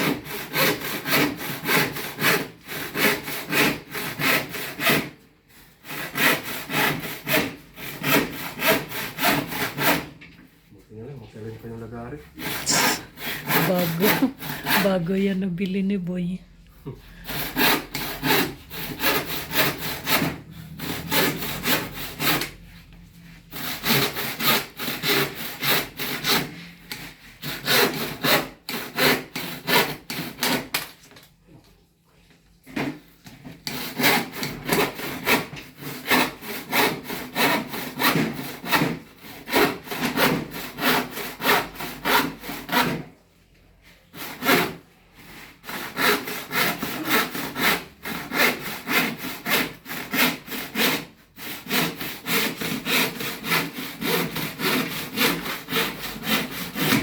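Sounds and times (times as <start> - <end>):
handsaw cutting wood: 0.0 - 10.2, 12.3 - 15.4, 16.9 - 30.8, 32.7 - 43.2, 43.9 - 57.0.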